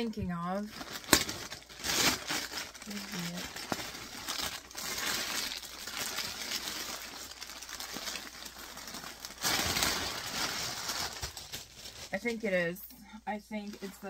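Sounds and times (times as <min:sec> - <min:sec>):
plastic bag crinkling: 0:00.5 - 0:14.0.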